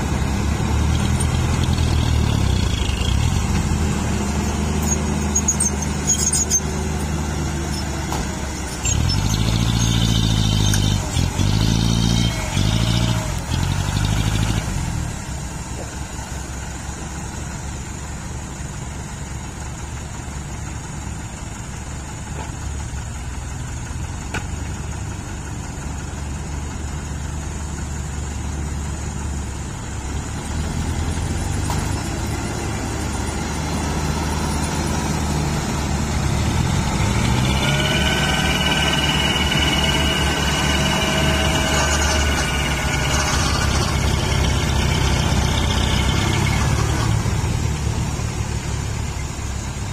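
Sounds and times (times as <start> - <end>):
diesel truck engine revving: 0.0 - 49.9.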